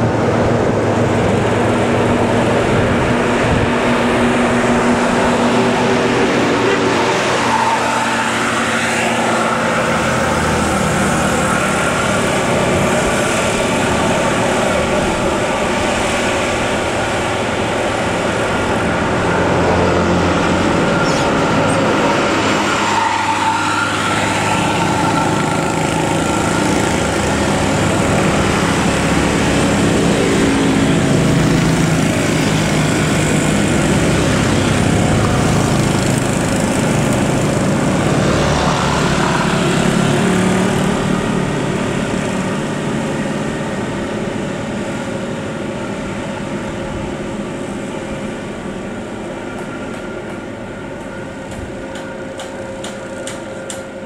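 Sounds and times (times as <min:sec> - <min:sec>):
bus diesel engine running hard: 0:00.0 - 0:54.0.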